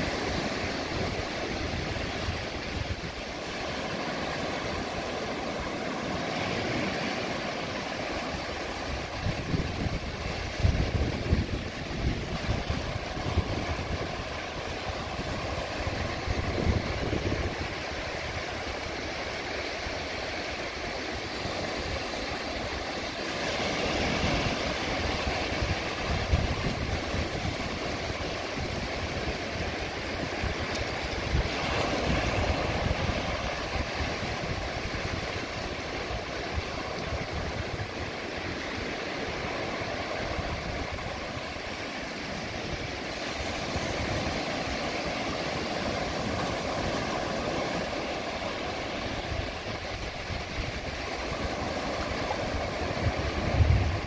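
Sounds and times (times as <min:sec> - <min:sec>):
wind rumble on microphone: 0:00.0 - 0:07.6, 0:08.2 - 0:54.0
waves breaking on beach: 0:00.0 - 0:54.0.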